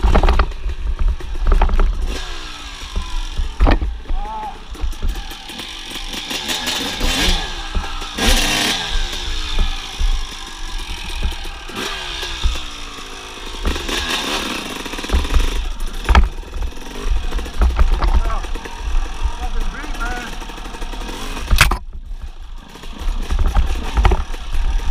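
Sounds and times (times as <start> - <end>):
bike clattering over bump: 0.0 - 19.7, 20.3 - 24.9
dirt bike engine revving: 0.0 - 24.9.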